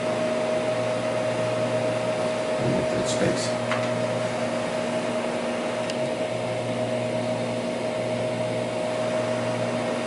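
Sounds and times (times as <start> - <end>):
disk drive whirring: 0.0 - 10.0.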